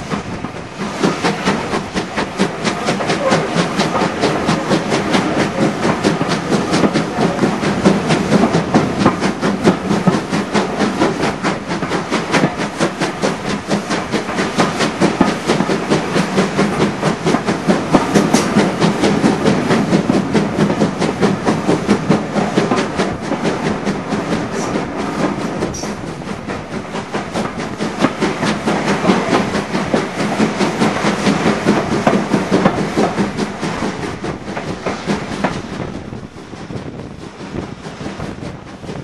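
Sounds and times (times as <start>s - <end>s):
steam locomotive exhaust chuffs: 0.0s - 39.0s
train wheels clattering on rails: 0.0s - 39.0s.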